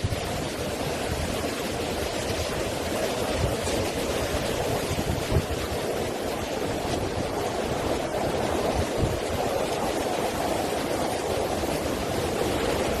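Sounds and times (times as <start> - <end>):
wind buffeting microphone: 0.0 - 13.0
wind roaring: 0.0 - 13.0.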